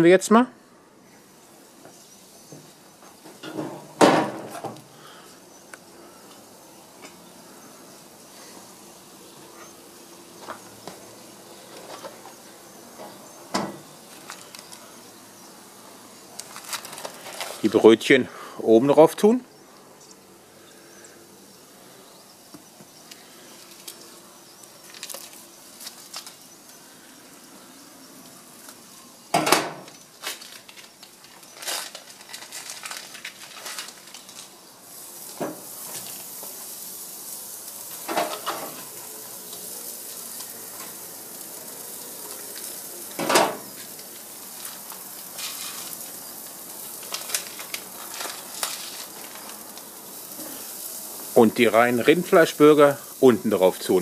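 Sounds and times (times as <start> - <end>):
meat sizzling on a grill: 1.0 - 54.0.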